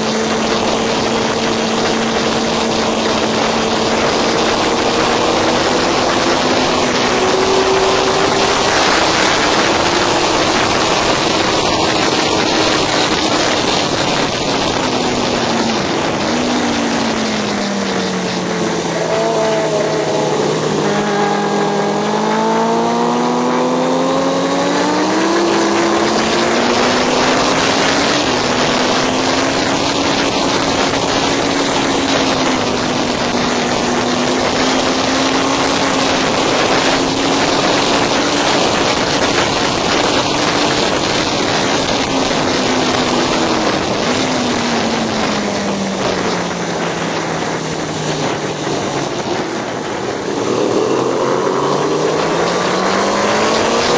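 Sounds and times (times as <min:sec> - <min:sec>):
racing motorcycle engine: 0:00.0 - 0:53.9
wind rush on microphone: 0:00.0 - 0:53.9.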